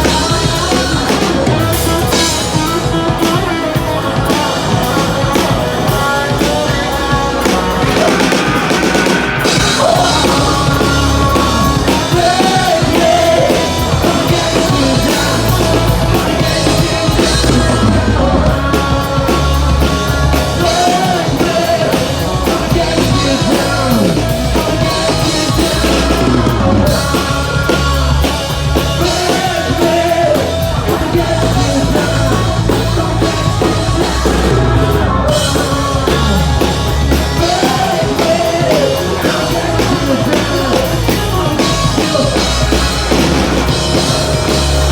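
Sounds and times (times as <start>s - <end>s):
hard rock band playing: 0.0s - 44.9s.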